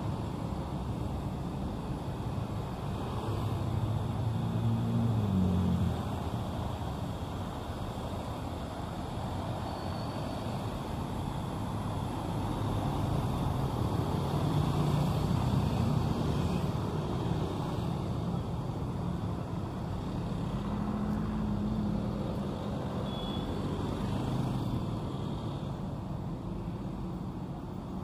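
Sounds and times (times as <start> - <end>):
city street traffic: 0.0 - 28.0
vehicles passing close: 0.0 - 28.0.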